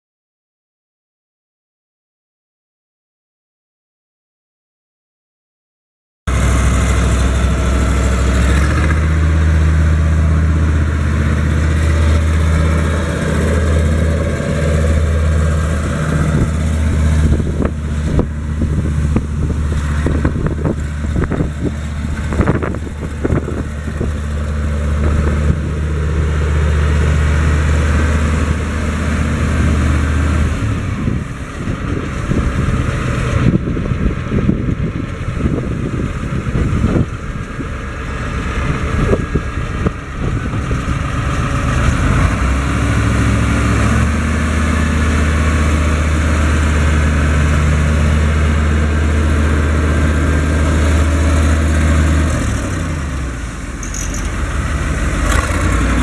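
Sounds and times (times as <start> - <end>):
tractor diesel engine droning: 6.3 - 56.0.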